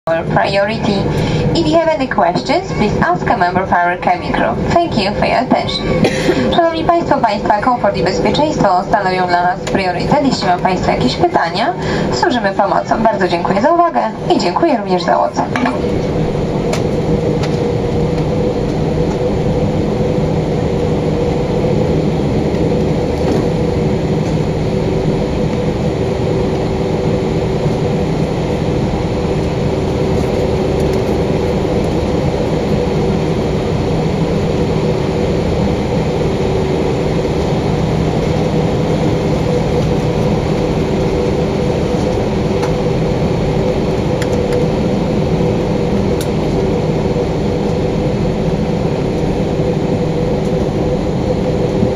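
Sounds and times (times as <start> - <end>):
airplane cabin noise: 0.0 - 51.9.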